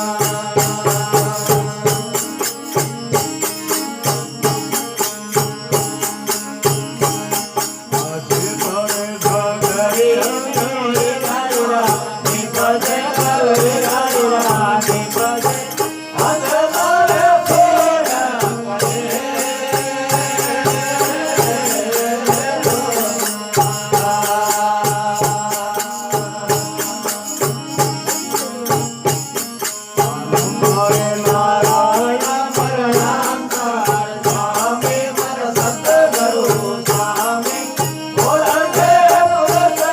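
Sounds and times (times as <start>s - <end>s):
sharp percussion strikes: 0.0s - 39.9s.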